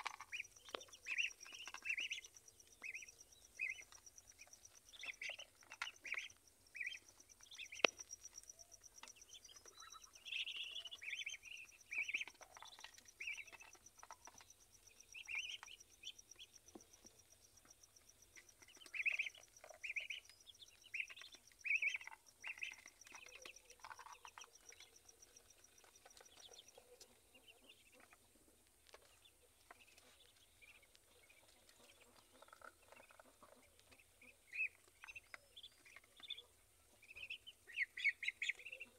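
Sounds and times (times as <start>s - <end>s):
ducklings peeping: 0.0s - 38.9s.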